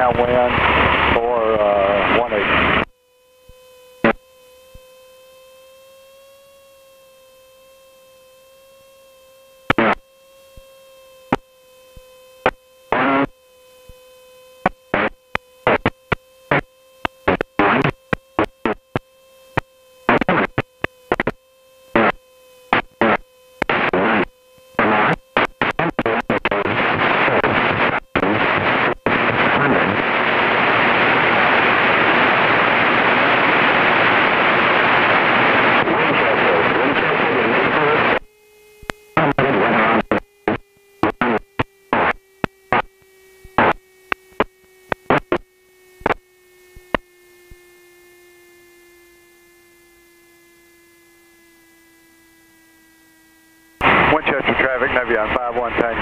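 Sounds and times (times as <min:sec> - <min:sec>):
radio static crackling: 0:00.0 - 0:47.7, 0:53.8 - 0:56.0
radio hum-like tone: 0:00.0 - 0:56.0.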